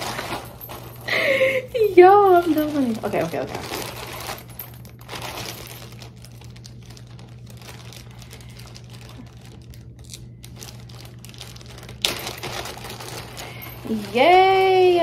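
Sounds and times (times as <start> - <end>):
low electrical hum: 0.0 - 15.0
plastic packaging crinkling: 0.0 - 15.0.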